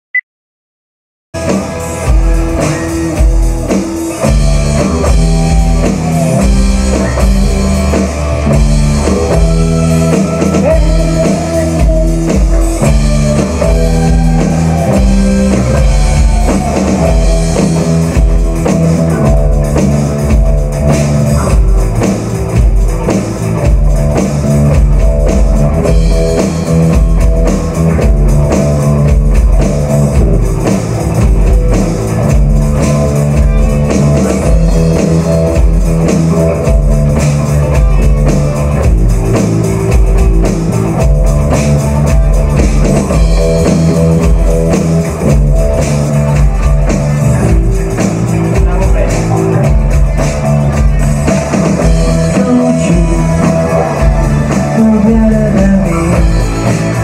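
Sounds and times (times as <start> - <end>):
drum kit playing: 1.4 - 57.0
electric bass guitar: 1.4 - 57.0
pitch-bending guitar lines: 1.4 - 57.0.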